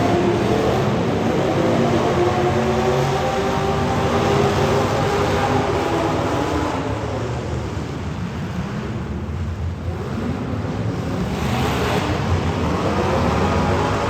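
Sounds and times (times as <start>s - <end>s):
race car engines running hard: 0.0s - 14.0s.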